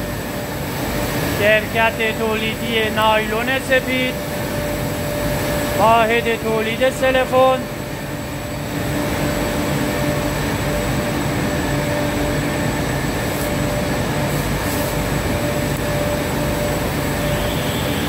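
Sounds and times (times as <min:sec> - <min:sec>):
machinery droning: 0:00.0 - 0:18.0.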